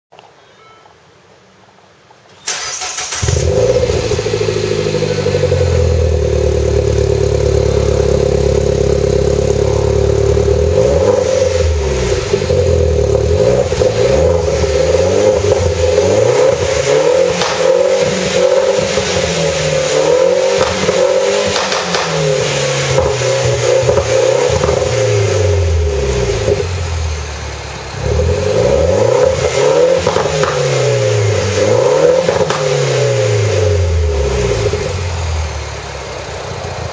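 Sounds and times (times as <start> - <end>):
car engine idling and revving: 2.8 - 36.9.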